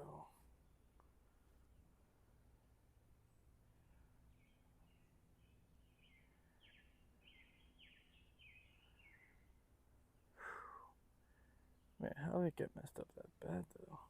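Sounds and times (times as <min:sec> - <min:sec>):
faint bird song: 0:00.0 - 0:14.0.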